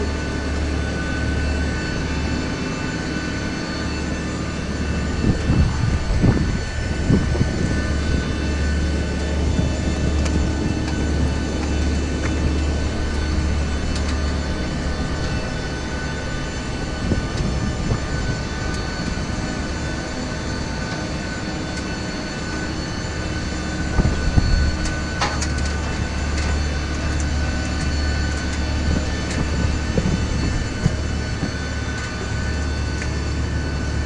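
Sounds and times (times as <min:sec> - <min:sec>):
airliner cabin rumble and hum: 0:00.0 - 0:34.0
faint steady whines: 0:00.0 - 0:34.0.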